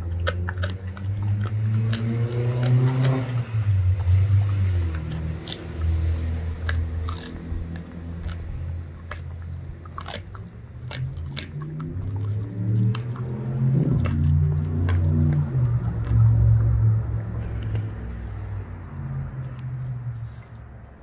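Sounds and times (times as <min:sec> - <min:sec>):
dog crunching bones: 0:00.0 - 0:21.0
low droning hum: 0:00.0 - 0:21.0.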